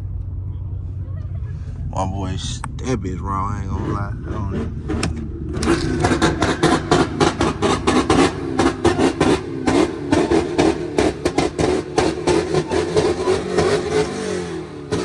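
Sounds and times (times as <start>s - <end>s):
car engine revving: 0.0s - 15.0s
exhaust pops and crackles: 0.0s - 15.0s.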